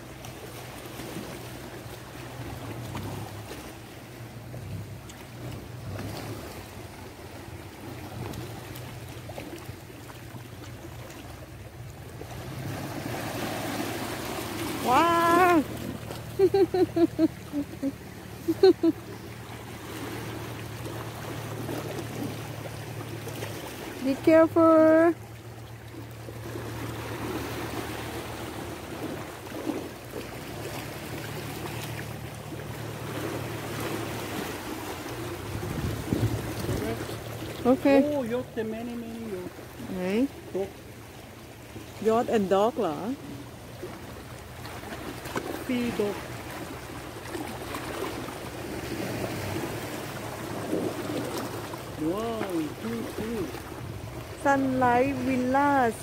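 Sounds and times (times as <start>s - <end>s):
low motor hum: 0.0s - 56.0s
small waves splashing against rocks: 0.0s - 56.0s.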